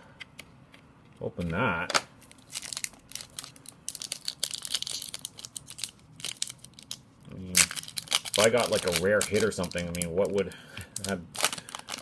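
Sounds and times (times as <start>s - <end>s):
card pack wrapper crinkling: 2.2s - 12.0s.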